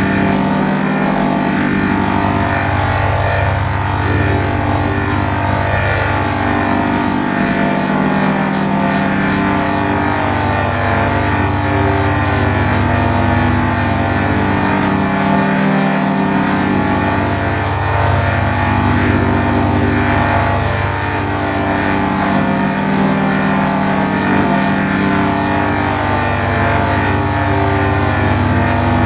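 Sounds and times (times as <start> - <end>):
dense drone of layered tones: 0.0 - 29.0.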